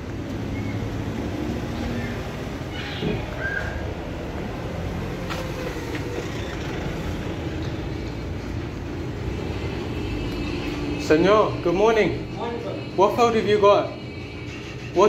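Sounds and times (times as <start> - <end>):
low rumble of street noise: 0.0 - 15.0.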